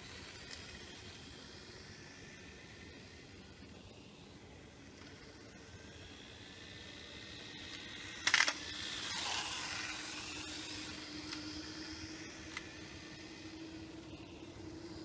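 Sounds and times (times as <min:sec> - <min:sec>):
toy car electric motor whine: 0:00.0 - 0:15.0.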